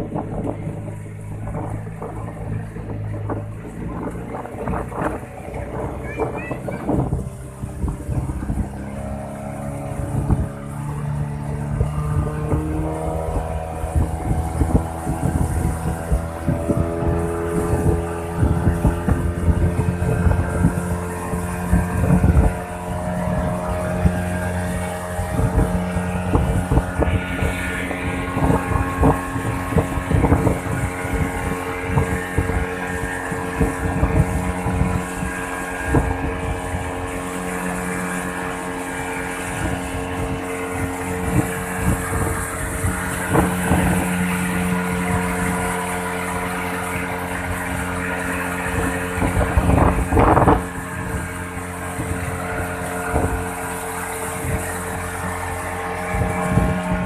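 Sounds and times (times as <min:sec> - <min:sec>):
motorboat engine running: 0:00.0 - 0:57.0
water rushing along hull: 0:00.0 - 0:57.0
wind buffeting microphone: 0:00.0 - 0:57.0.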